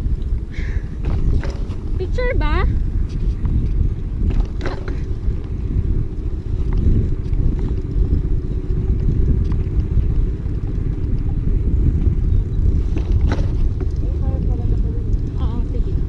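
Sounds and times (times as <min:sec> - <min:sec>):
bicycle road noise: 0:00.0 - 0:16.0
wind buffeting microphone: 0:00.0 - 0:16.0.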